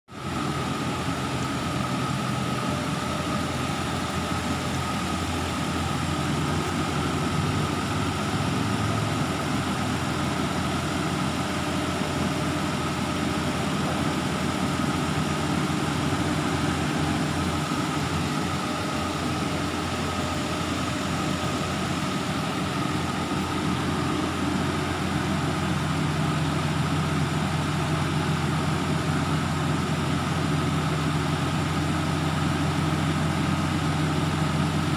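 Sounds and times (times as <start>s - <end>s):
boom lift engine running: 0.1s - 34.9s.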